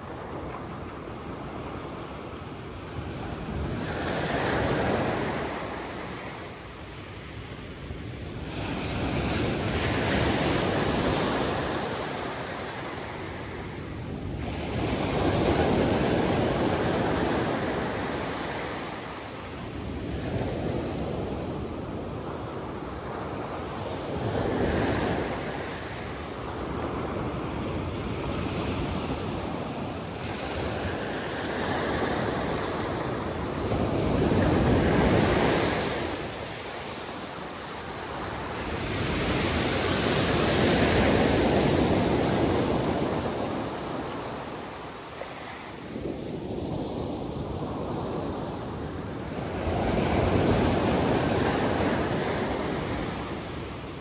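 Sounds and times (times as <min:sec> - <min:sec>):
sea waves surging: 0:00.0 - 0:54.0.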